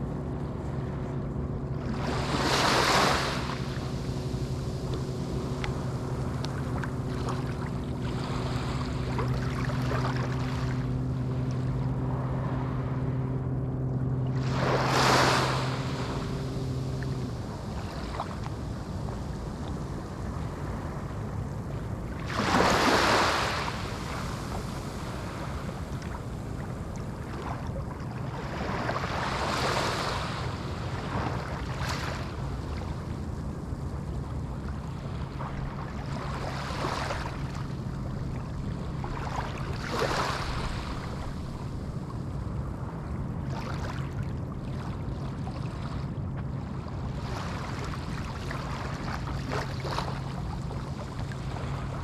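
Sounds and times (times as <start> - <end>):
low motor hum: 0.0 - 52.0
small waves washing onto beach: 0.0 - 52.0.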